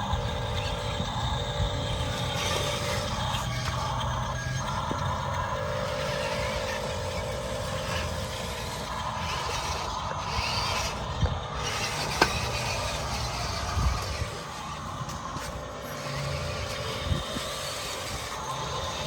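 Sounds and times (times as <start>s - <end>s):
toy machine motors and gearboxes: 0.0s - 19.0s.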